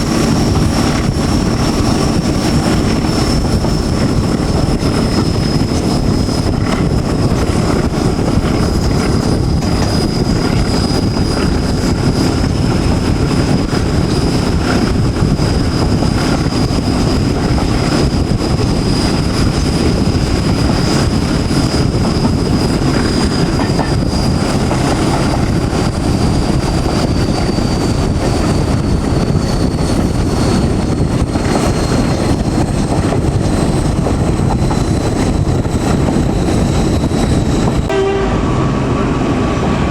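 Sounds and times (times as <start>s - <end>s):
diesel locomotive engine running: 0.0s - 39.9s
high engine whine: 0.0s - 39.9s.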